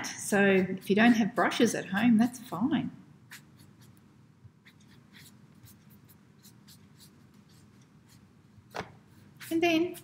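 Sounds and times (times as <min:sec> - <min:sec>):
sponge dabbing on paper: 0:00.5 - 0:10.0.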